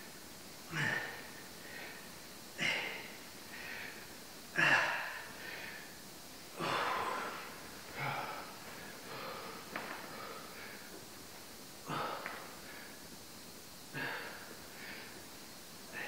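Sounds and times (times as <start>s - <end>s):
man breathing hard: 0.7s - 11.2s, 11.8s - 13.2s, 13.8s - 16.0s.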